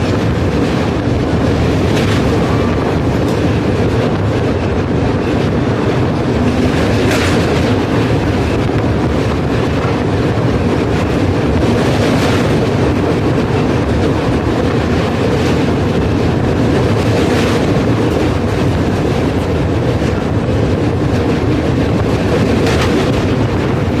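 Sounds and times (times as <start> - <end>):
train rumbling on rails: 0.0 - 24.0
train wheels clacking: 0.0 - 24.0.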